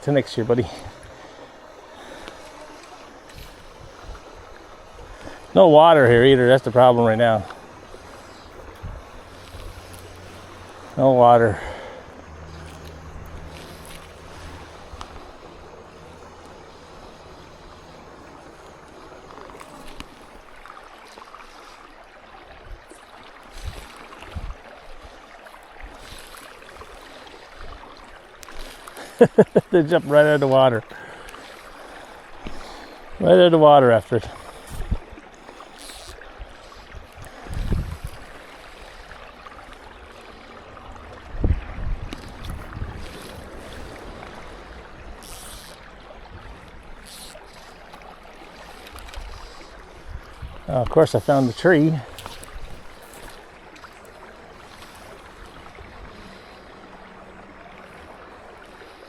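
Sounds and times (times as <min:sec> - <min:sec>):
running water hiss: 0:00.0 - 0:59.0
wind: 0:00.0 - 0:59.0.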